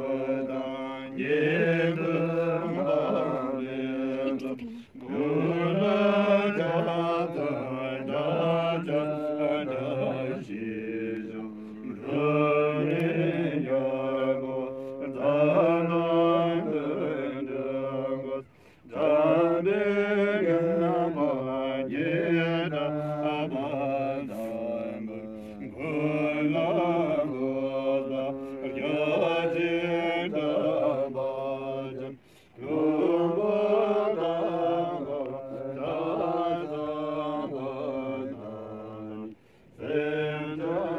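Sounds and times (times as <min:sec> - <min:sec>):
monks chanting: 0:00.0 - 0:40.9.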